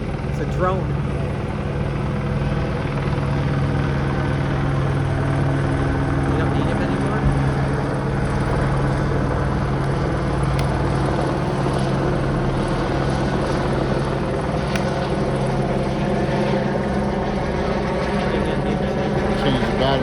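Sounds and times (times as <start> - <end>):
helicopter rotors overhead: 0.0 - 20.0.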